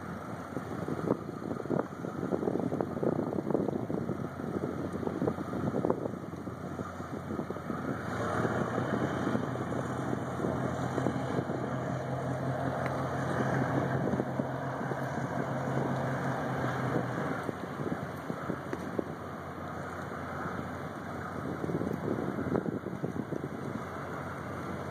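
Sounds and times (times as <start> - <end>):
ship diesel engines humming: 0.0 - 24.9.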